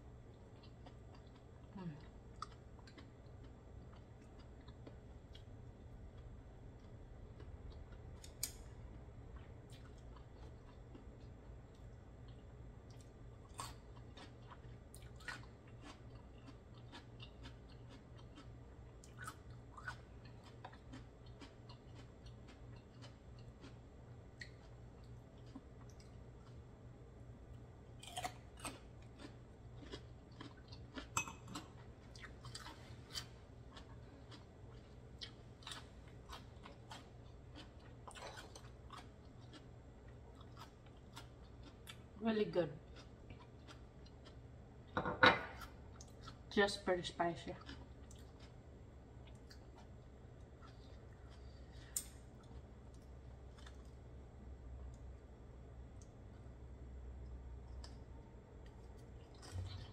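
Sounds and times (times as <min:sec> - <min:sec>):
low steady hum: 0:00.0 - 0:59.9
faint chewing and mouth clicks: 0:00.2 - 0:26.7, 0:27.5 - 0:42.1, 0:42.8 - 0:45.0, 0:45.6 - 0:46.5, 0:47.6 - 0:48.6, 0:49.2 - 0:54.1, 0:55.9 - 0:56.5, 0:57.2 - 0:59.9.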